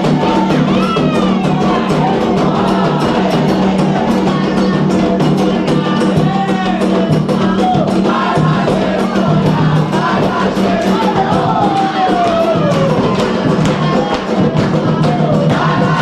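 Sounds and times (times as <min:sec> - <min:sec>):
group singing a chant: 0:00.0 - 0:16.0
hand drums fast rhythm: 0:00.0 - 0:16.0.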